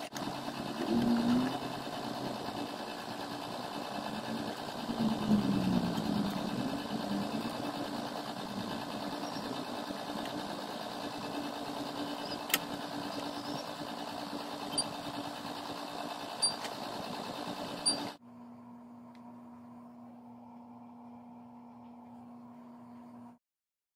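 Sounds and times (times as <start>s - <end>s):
machine whirring with low hum: 0.0s - 23.4s.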